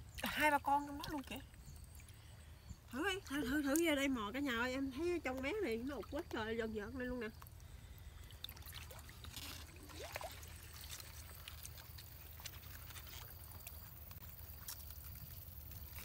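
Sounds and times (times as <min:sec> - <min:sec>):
water sloshing and trickling: 0:00.0 - 0:16.0.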